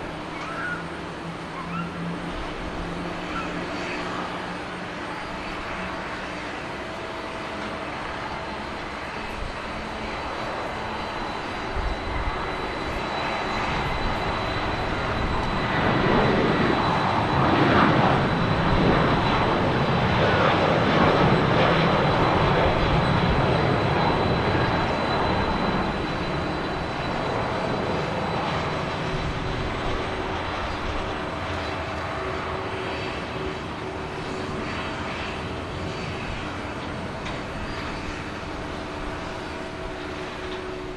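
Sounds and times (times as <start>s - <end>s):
jet engines taxiing: 0.0s - 40.9s.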